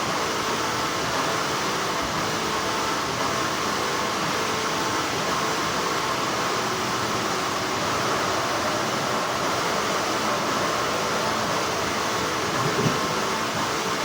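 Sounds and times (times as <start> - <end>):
factory machinery humming: 0.0 - 14.0.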